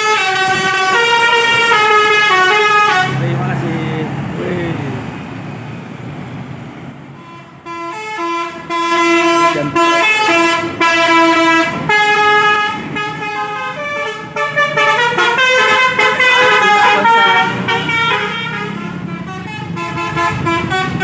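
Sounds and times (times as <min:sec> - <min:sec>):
multi-tone bus horn melody: 0:00.0 - 0:03.9, 0:07.1 - 0:21.0
bus engine running low: 0:00.0 - 0:21.0.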